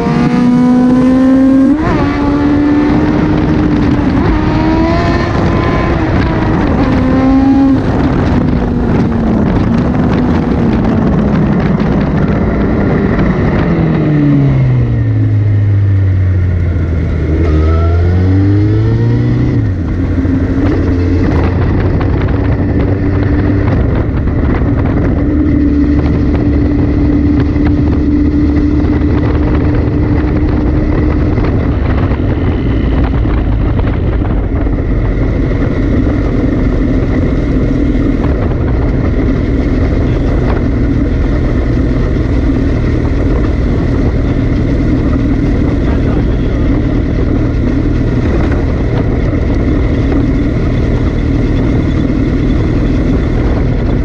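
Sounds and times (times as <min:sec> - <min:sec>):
motorcycle engine running: 0:00.0 - 0:54.0
tyre and road noise: 0:00.0 - 0:54.0.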